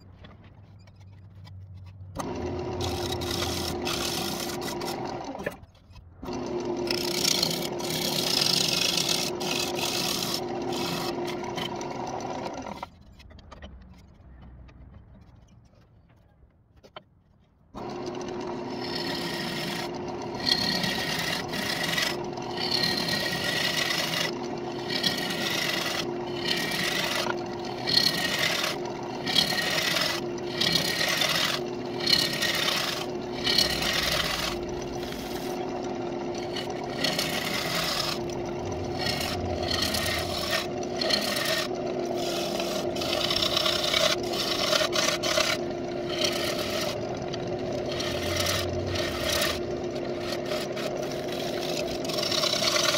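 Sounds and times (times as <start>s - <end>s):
tool shaving spinning wood: 0.2s - 14.0s, 17.8s - 52.9s
lathe motor hum: 2.2s - 5.6s, 6.2s - 12.9s, 17.8s - 52.9s.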